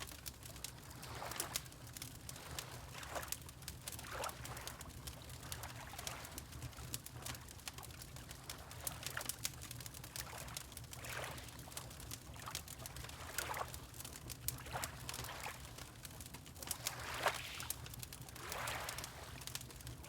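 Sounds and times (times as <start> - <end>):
water lapping: 0.0 - 9.3, 10.0 - 20.0
wood fire crackling: 0.0 - 20.0.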